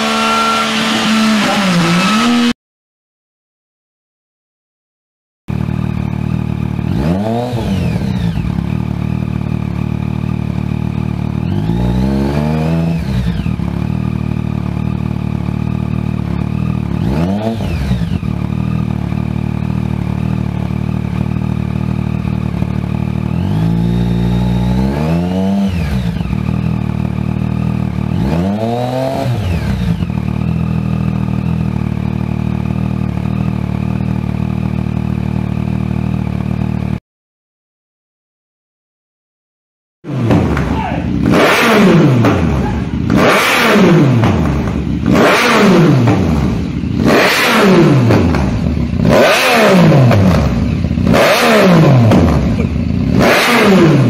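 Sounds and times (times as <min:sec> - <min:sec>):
motorcycle engine idling and revving: 0:00.0 - 0:02.6, 0:05.5 - 0:37.0, 0:40.0 - 0:54.0.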